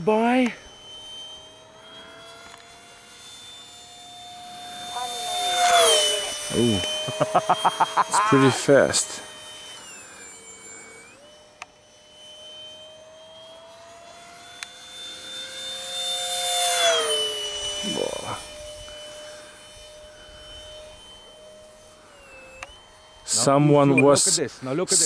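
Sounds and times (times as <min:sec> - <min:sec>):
electric ducted fan whine passing: 0:00.0 - 0:25.0.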